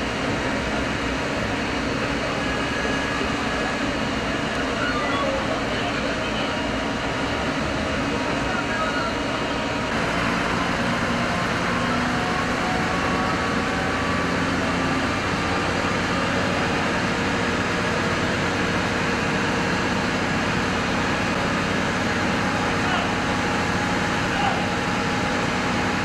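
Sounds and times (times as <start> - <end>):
fire truck engines rumbling: 0.0 - 26.0.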